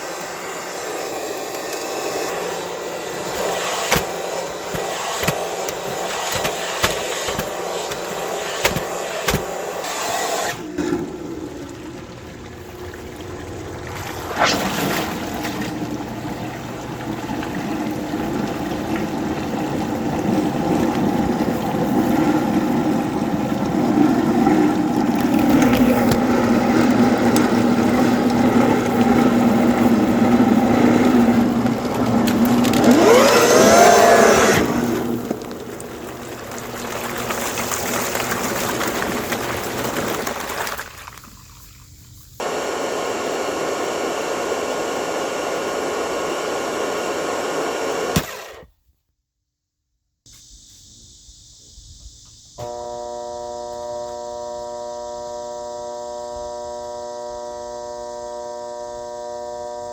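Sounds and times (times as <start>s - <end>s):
upright vacuum cleaner running: 0.0s - 40.7s, 42.4s - 48.7s, 52.6s - 59.9s.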